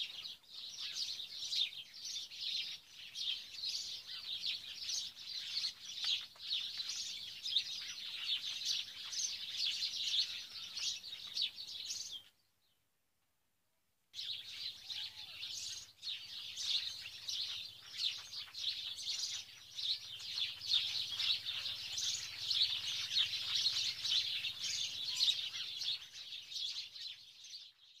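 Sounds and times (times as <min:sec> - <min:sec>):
many birds chirping: 0:00.0 - 0:12.5, 0:14.2 - 0:28.0.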